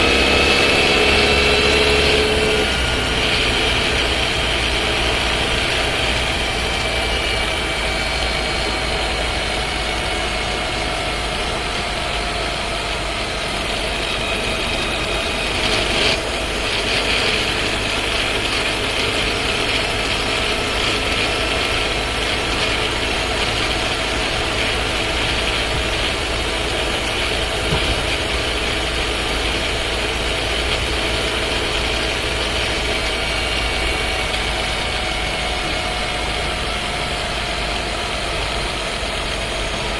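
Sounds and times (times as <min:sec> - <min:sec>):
car engine hum inside cabin: 0:00.0 - 0:39.9.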